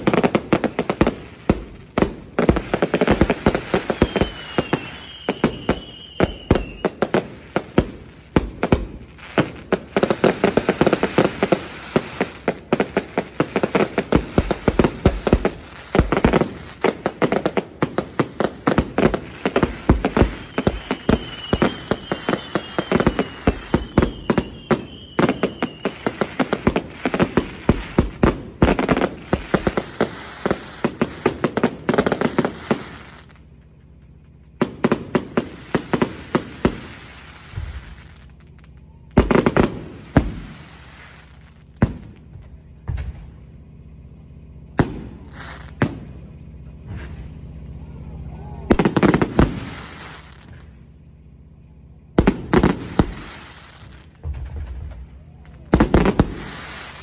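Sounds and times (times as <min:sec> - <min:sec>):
fireworks bangs and crackling: 0:00.0 - 0:57.0
fireworks falling whistles: 0:00.0 - 0:57.0.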